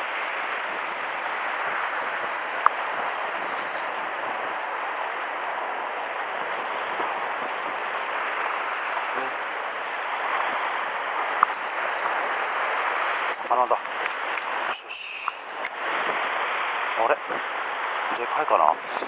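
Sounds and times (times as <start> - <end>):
surf washing against rocks: 0.0 - 19.0.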